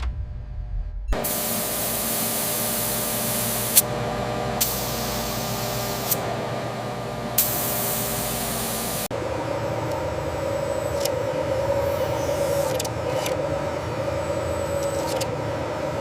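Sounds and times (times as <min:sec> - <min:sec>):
faint machine hum: 0:00.0 - 0:16.0.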